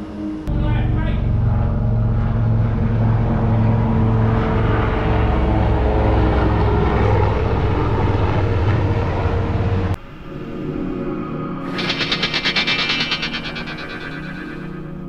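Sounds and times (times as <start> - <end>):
engine drone: 0.1 - 15.0.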